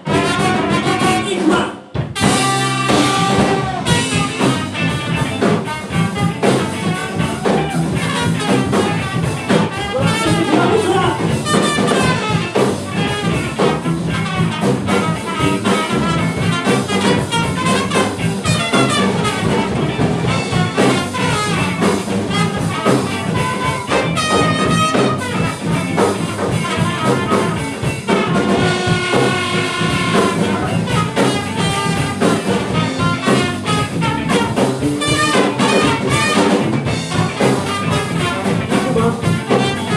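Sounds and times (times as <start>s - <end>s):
brass section: 0.0s - 39.9s
funk band playing: 0.0s - 39.9s.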